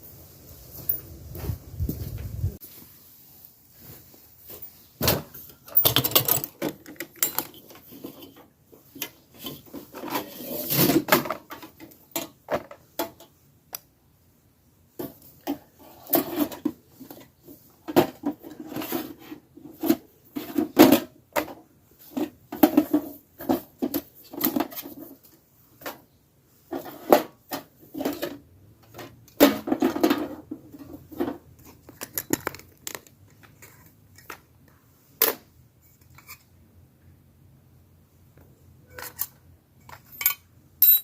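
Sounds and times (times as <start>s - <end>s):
objects knocking and scraping: 3.8s - 13.4s, 14.9s - 36.6s, 38.4s - 41.0s.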